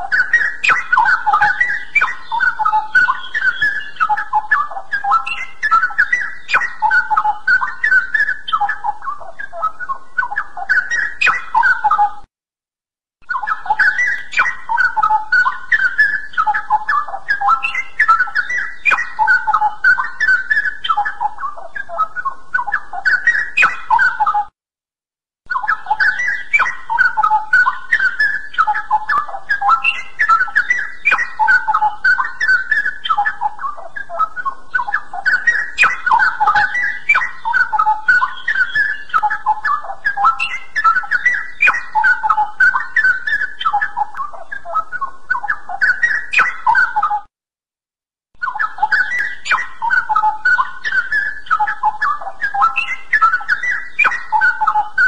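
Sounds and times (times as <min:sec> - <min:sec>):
bird singing whistled warbles: 0:00.0 - 0:12.2, 0:13.2 - 0:24.5, 0:25.5 - 0:47.3, 0:48.4 - 0:55.0.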